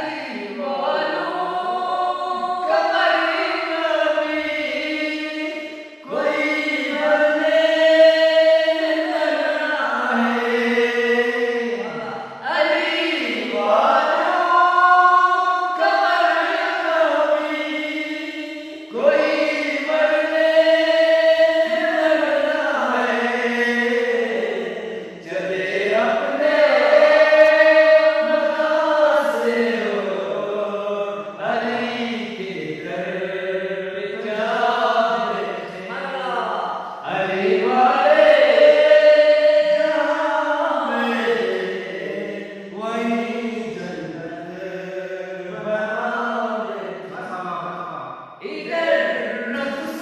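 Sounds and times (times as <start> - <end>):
men singing devotional song: 0.0 - 50.0.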